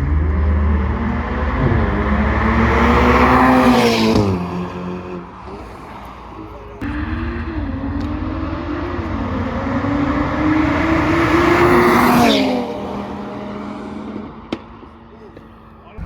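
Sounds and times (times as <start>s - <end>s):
car engine accelerating hard: 0.0s - 15.8s.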